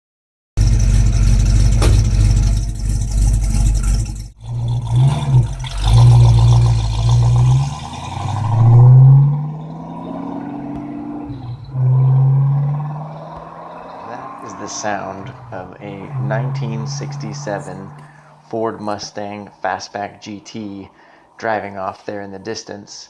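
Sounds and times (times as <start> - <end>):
car engine rumbling and revving: 0.6 - 22.2.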